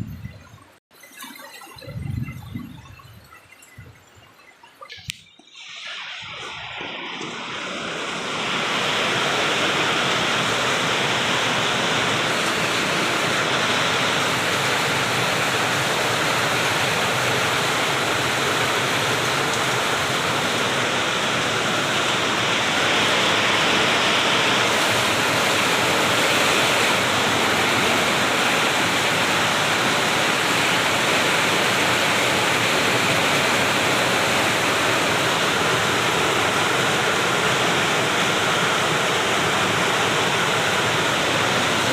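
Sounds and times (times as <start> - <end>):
heavy rain pouring: 4.9 - 41.9.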